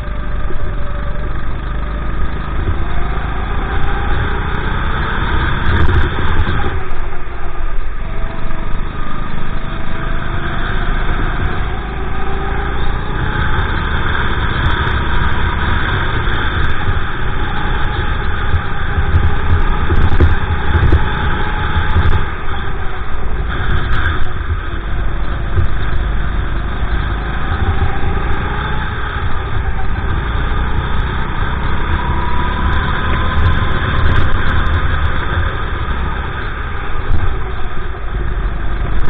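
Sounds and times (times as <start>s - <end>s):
kart engine running at speed: 0.0s - 39.0s.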